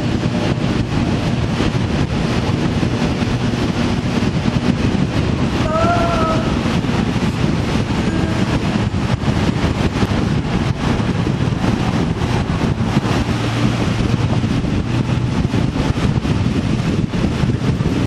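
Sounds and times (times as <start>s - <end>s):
vehicle running: 0.0s - 18.0s
wind buffeting microphone: 0.0s - 18.0s.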